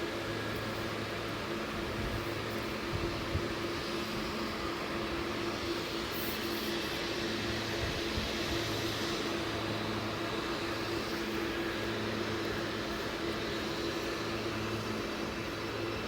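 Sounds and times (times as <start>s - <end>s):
constant rushing noise: 0.0s - 16.0s
train electrical hum: 0.0s - 16.0s.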